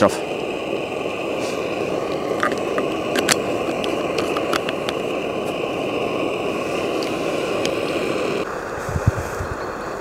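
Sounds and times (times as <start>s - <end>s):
stove burning with rushing noise: 0.0s - 10.0s.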